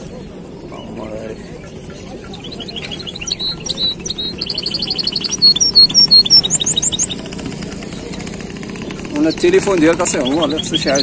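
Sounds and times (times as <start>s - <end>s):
low background murmur: 0.0s - 11.0s
songbird singing and trilling: 0.0s - 11.0s.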